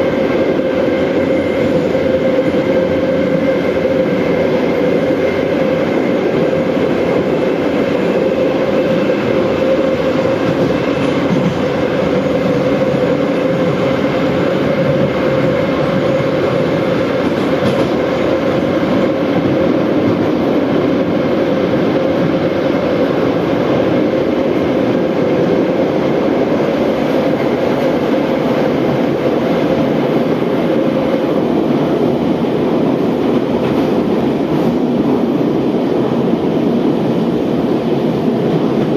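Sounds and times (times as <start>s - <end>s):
subway train wheels on rail: 0.0s - 38.9s.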